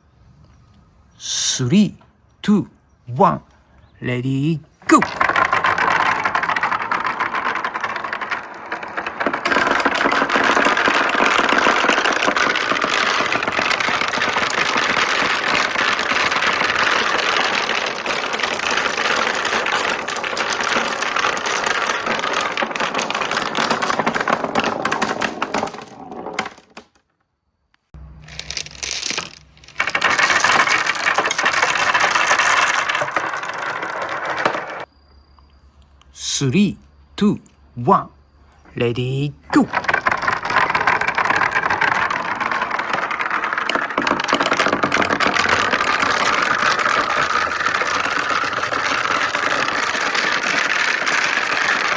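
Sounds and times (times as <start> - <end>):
marbles rolling and clattering: 4.1 - 27.3, 27.9 - 34.9, 37.6 - 51.9.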